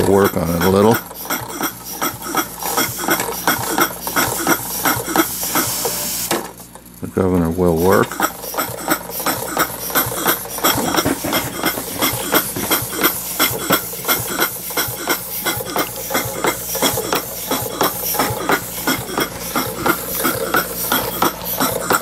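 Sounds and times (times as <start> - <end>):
model steam engine puffing: 0.0 - 6.8, 7.8 - 22.0.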